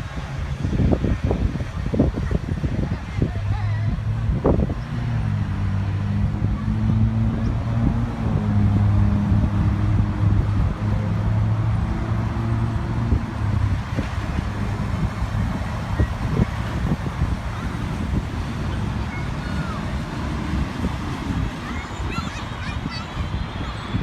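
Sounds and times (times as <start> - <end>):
road traffic noise: 0.0 - 24.0
vehicle engine humming: 0.0 - 24.0.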